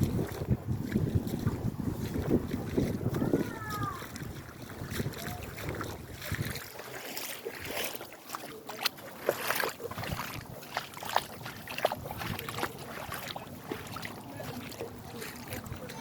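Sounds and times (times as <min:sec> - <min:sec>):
floodwater splashing and sloshing: 0:00.0 - 0:16.0.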